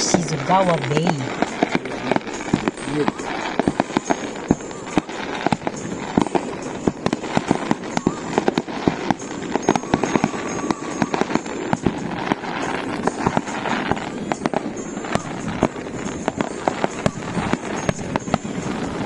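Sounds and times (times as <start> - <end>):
fireworks bangs and crackling pops: 0.0 - 19.0
fireworks hiss and crackle: 0.0 - 19.0.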